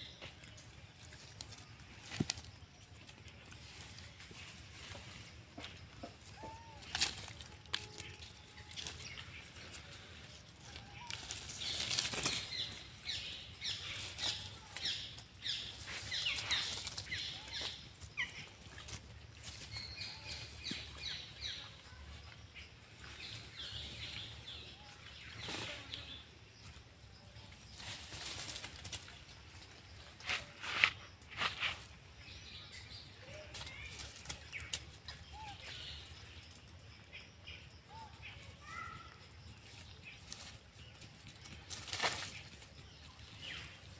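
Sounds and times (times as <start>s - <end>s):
monkeys rustling in dry leaves: 0.1s - 43.9s.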